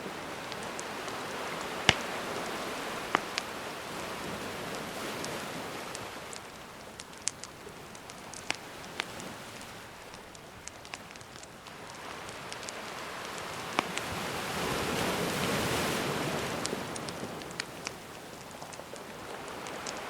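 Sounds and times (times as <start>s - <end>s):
campfire crackling: 0.0s - 20.0s
sea waves washing: 0.0s - 20.0s.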